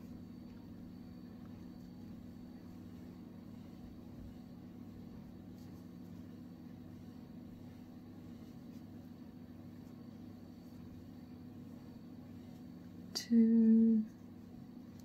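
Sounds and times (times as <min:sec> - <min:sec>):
faint thin whine: 0:00.0 - 0:15.0
low background hum: 0:00.0 - 0:15.0.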